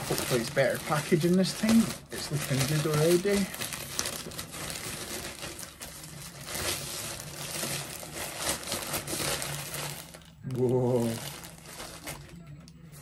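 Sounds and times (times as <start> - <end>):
packaging crinkling and tearing: 0.0 - 12.6.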